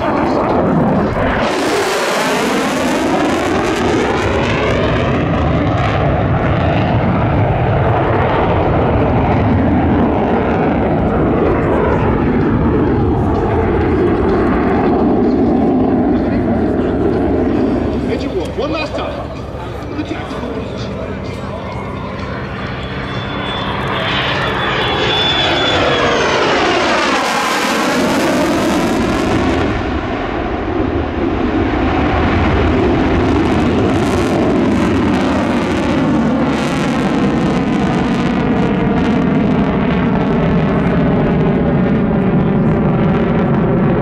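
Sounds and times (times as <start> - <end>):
fighter jet afterburner roar: 0.0 - 44.0.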